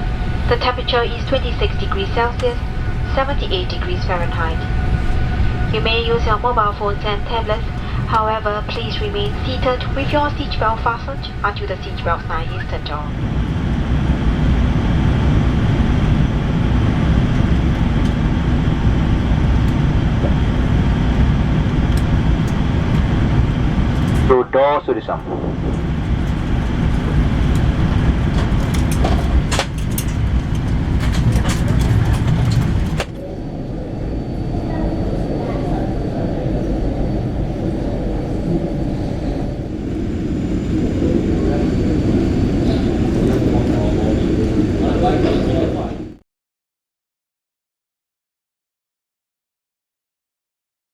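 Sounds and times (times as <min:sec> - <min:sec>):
aircraft cabin rumble: 0:00.0 - 0:46.2.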